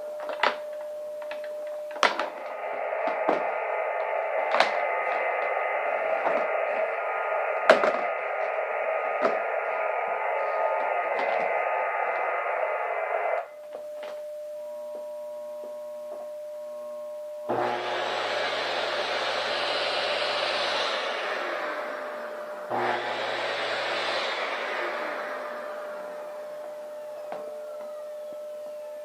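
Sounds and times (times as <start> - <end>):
radio static with crackles: 0.2 - 14.2, 17.5 - 29.0
steady radio tone: 0.2 - 14.3, 17.5 - 29.0
vacuum cleaner motor starting: 1.2 - 13.4, 17.5 - 28.9.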